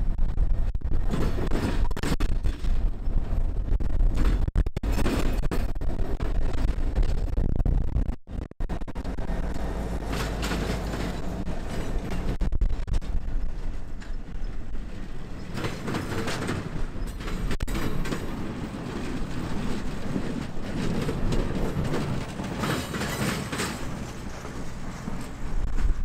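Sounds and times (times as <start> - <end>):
train wheels rumbling on rails: 0.0 - 26.0
clicks over rail joints: 0.9 - 26.0.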